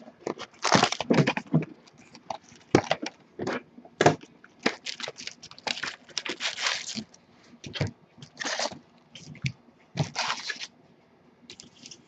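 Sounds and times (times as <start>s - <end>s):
plastic wrap and cardboard crinkling: 0.0s - 10.7s.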